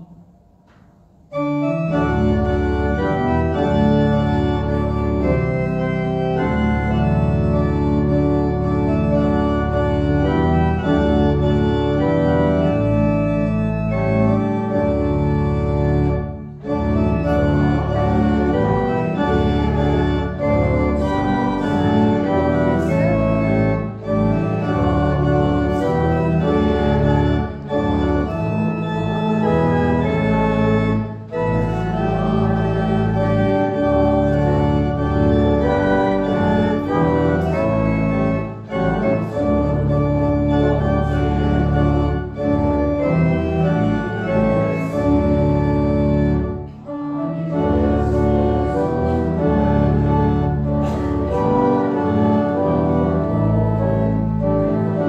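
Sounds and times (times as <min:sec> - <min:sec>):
organ playing a hymn: 0:00.0 - 0:55.0.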